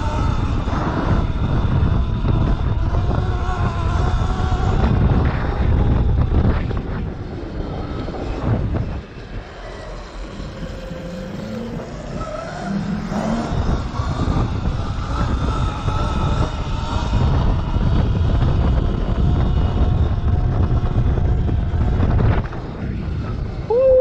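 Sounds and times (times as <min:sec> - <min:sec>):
electric motor whine: 0:00.0 - 0:24.0
wind rumbling on microphone: 0:00.0 - 0:24.0.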